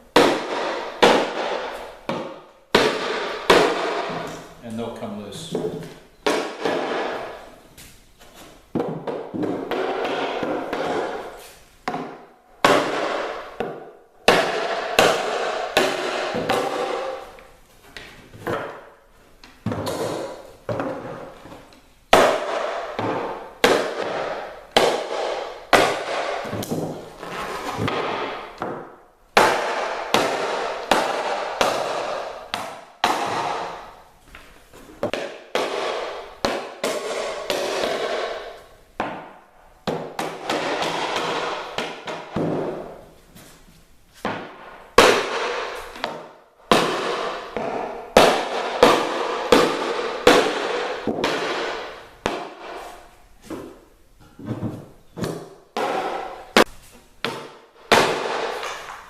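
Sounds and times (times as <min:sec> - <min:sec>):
sharp knocks on wooden forms: 0:00.1 - 0:04.5, 0:05.5 - 0:07.4, 0:08.2 - 0:34.0, 0:35.0 - 0:43.0, 0:44.2 - 0:59.0.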